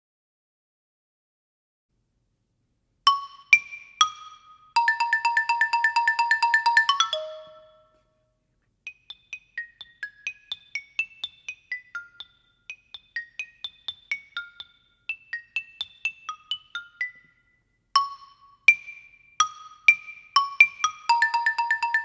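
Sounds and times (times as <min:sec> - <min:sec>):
xylophone notes: 0:03.1 - 0:08.0, 0:08.9 - 0:22.0.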